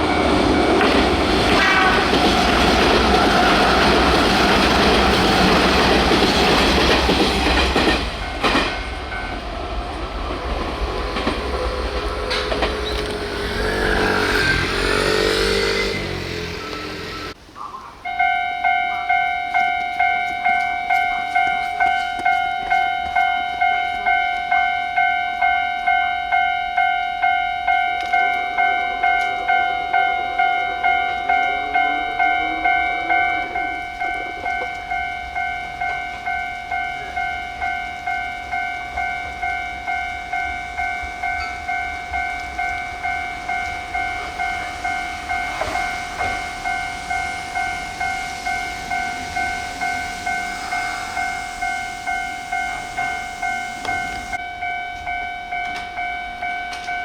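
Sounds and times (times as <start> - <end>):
faint rising train whine: 0.0 - 57.0
level-crossing warning bell ringing: 0.0 - 57.0.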